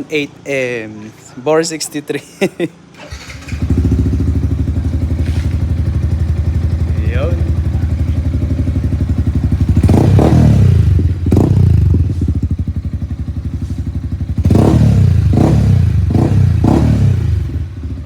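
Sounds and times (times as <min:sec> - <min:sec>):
motorcycle engine idling and revving: 0:03.0 - 0:18.0.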